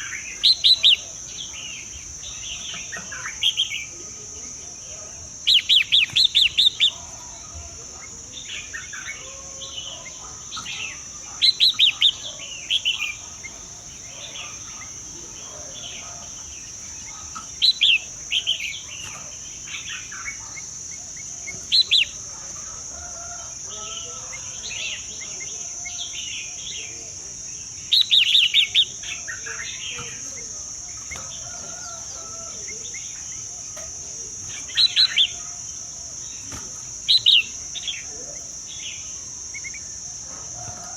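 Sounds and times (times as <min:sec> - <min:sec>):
birds chirping: 0:00.0 - 0:27.0, 0:27.9 - 0:40.0
steady high-pitched hiss: 0:00.0 - 0:40.9.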